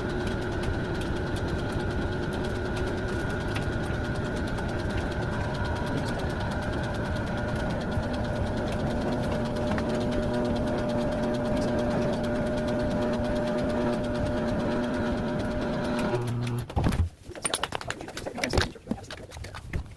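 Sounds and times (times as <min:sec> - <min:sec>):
machine humming: 0:00.0 - 0:16.7.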